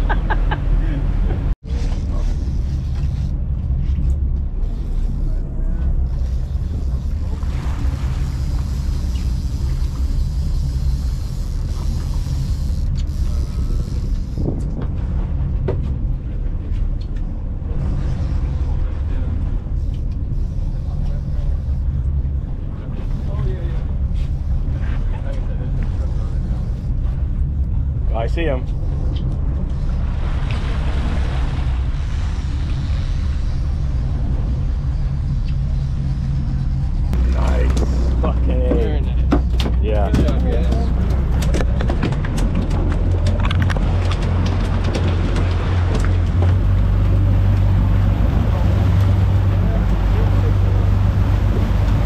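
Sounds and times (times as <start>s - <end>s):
boat engine rumbling: 0.0s - 52.0s
wind buffeting microphone: 0.0s - 52.0s.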